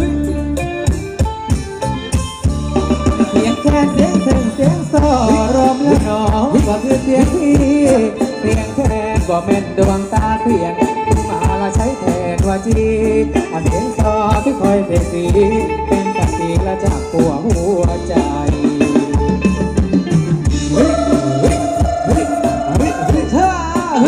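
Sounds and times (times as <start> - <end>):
drum and shaker beat: 0.0 - 24.0
live band dance music: 0.0 - 24.0.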